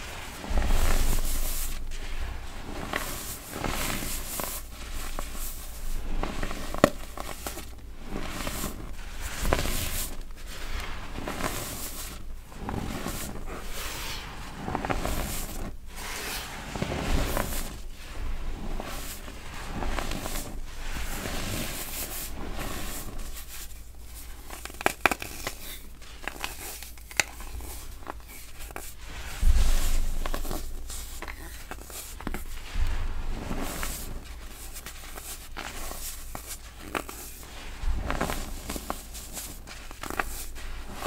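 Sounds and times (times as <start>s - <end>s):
baking soda crunching: 0.0s - 41.0s.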